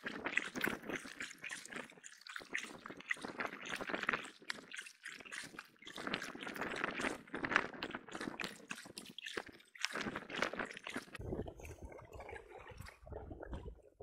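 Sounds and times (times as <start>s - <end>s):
paddle water splashing and dripping: 0.0s - 14.0s.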